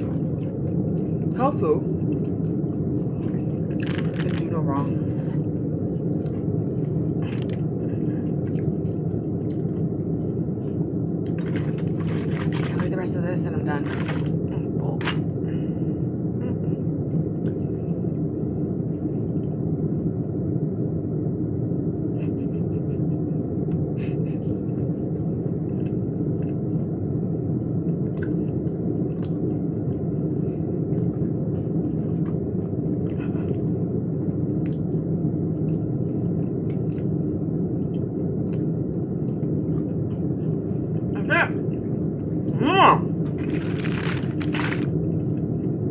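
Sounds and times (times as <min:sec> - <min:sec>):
low background rumble: 0:00.0 - 0:45.9.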